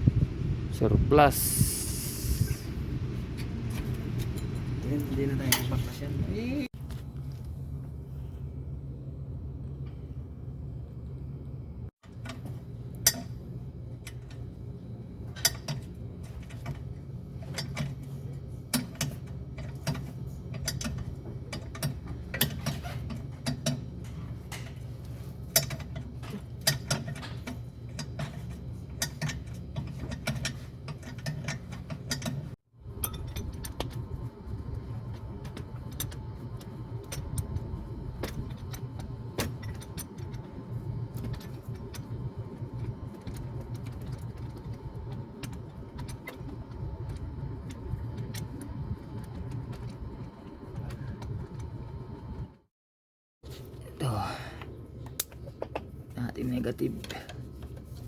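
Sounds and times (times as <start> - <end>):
steady low hum: 0.0 - 52.7, 53.4 - 58.0.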